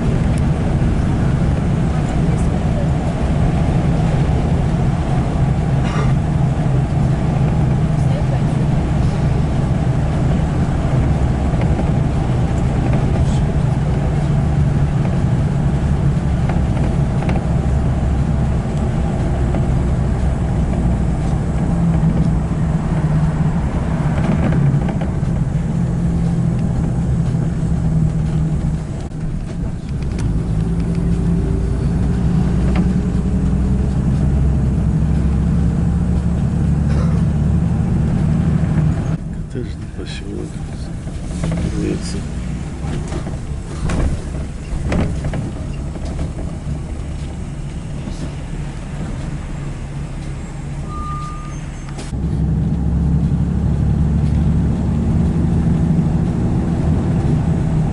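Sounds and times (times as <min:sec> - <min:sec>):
car engine hum and road noise: 0:00.0 - 0:57.9.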